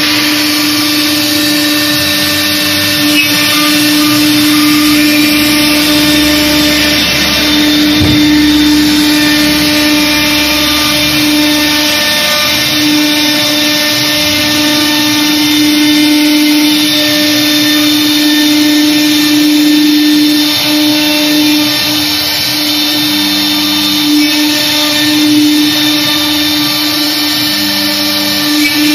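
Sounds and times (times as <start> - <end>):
hiss of bit cutting wood: 0.0 - 28.9
router spindle running: 0.0 - 28.9.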